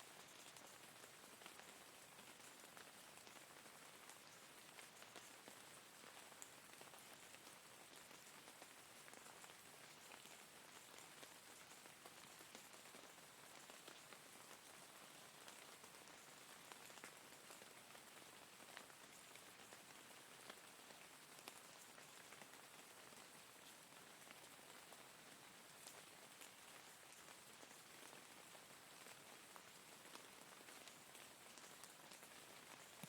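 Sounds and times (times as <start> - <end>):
faint rain hiss: 0.0 - 33.0.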